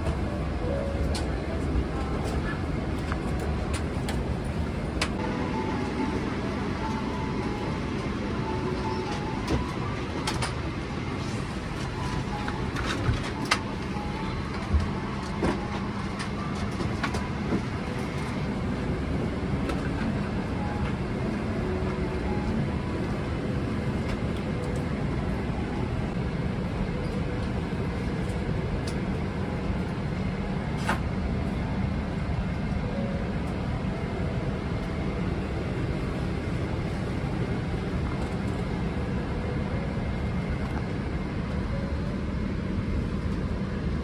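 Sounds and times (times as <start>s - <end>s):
vehicle ride rumble: 0.0s - 44.0s.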